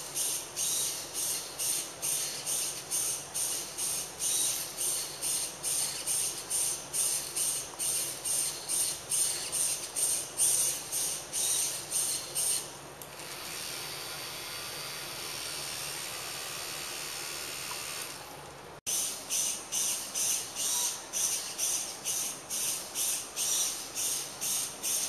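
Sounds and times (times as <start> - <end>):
small fan hissing: 0.0 - 25.0.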